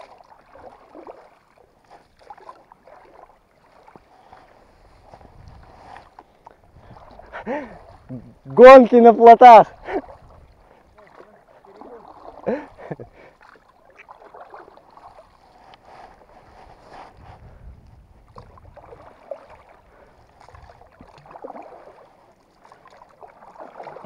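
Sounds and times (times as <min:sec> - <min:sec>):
paddle splashing through water: 0:00.0 - 0:24.0.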